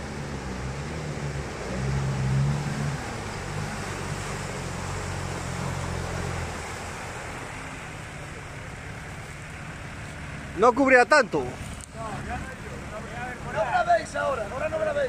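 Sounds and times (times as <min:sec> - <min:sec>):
truck engine revving under load: 0:00.0 - 0:13.6.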